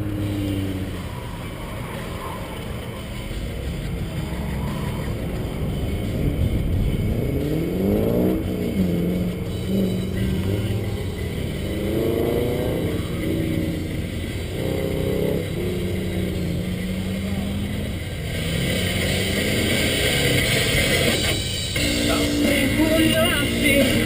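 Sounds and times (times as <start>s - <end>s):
truck engine revving: 0.0s - 24.0s
wind and road noise: 0.0s - 24.0s.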